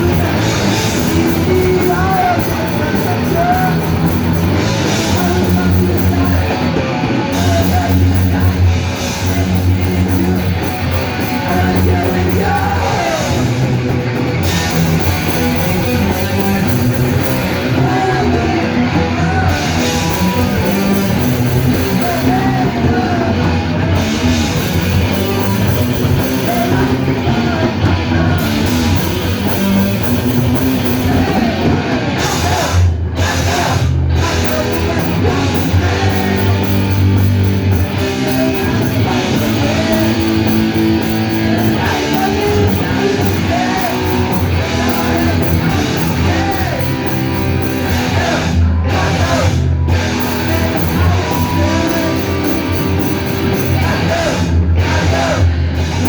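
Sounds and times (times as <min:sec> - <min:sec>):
drum kit: 0:00.0 - 0:48.6, 0:49.2 - 0:56.0
distorted electric guitars: 0:00.0 - 0:56.0.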